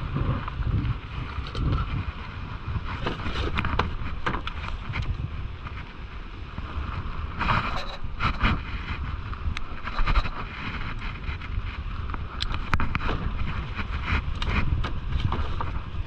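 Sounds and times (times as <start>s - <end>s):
low rumble: 0.0s - 16.0s
wind buffeting microphone: 0.0s - 16.0s
handling clicks and rustles: 0.4s - 5.9s, 7.4s - 16.0s.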